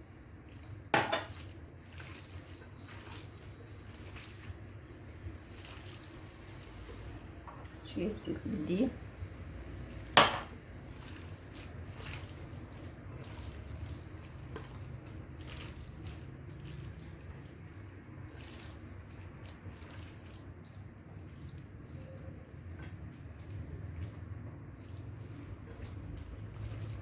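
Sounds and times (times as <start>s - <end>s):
wet squelching of mixing food: 0.0s - 7.4s, 9.0s - 27.0s.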